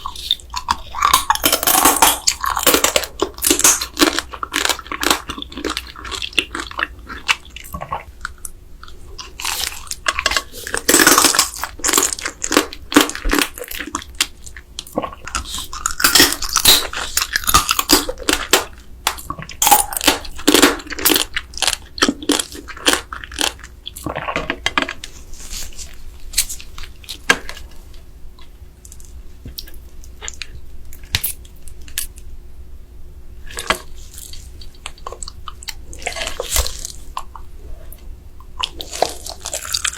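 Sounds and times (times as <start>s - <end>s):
chewing and crunching crab: 0.0s - 27.8s, 33.4s - 39.9s.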